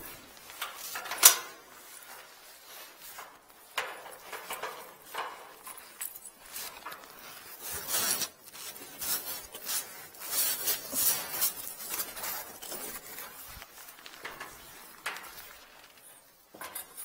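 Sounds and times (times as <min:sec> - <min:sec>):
rustling and scraping on microphone: 0:00.0 - 0:17.0.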